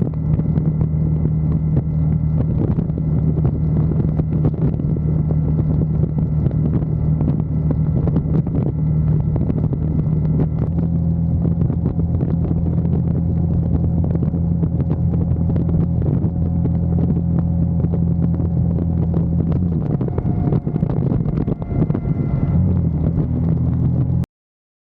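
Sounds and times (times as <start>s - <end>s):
motorcycle engine running: 0.0s - 24.2s
wind on microphone: 0.0s - 24.3s.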